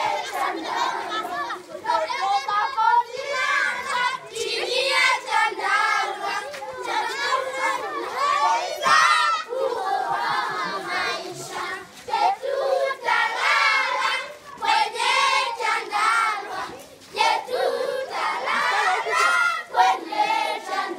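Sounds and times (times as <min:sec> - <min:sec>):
children singing and chanting: 0:00.0 - 0:20.9.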